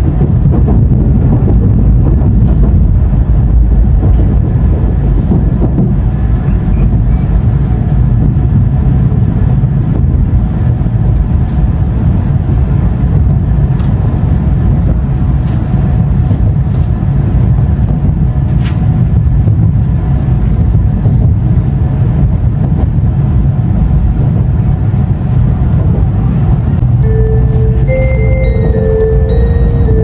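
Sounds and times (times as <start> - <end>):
train running rumble: 0.0 - 30.0.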